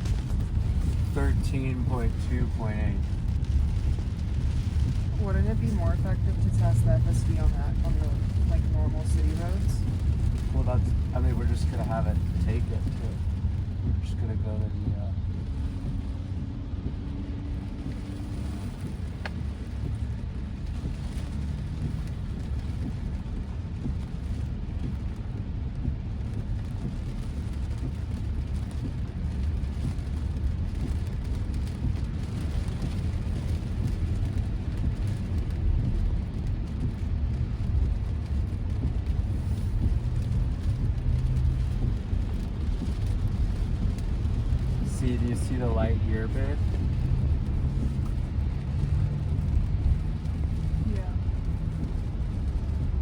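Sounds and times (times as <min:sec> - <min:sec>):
rain on car body: 0:00.0 - 0:53.0
tyres rumbling on wet road: 0:00.0 - 0:53.0.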